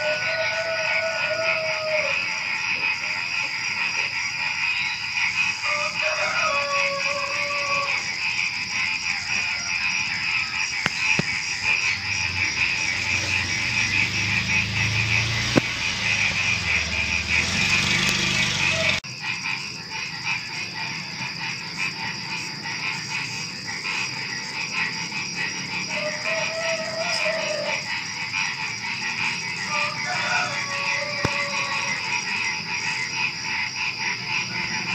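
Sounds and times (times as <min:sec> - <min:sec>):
crickets trilling: 0:00.0 - 0:34.9
frogs croaking: 0:00.0 - 0:34.9.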